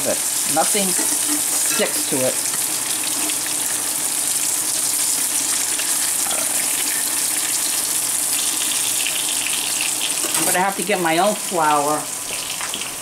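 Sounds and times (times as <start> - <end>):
fish fillets frying in oil: 0.0 - 13.0.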